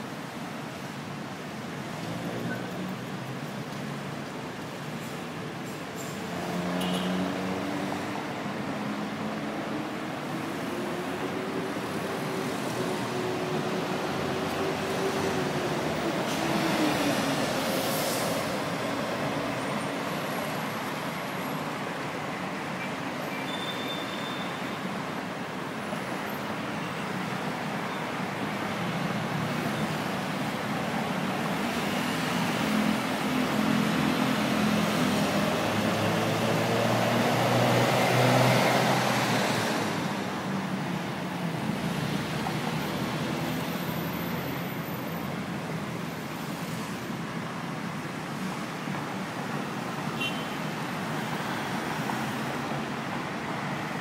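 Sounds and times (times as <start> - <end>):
dense road traffic: 0.0 - 54.0.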